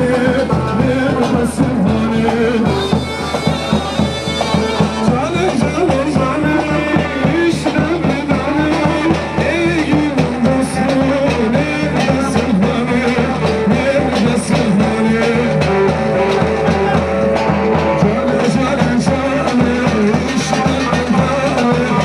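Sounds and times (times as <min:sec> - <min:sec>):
music with fast steady beat: 0:00.0 - 0:22.0.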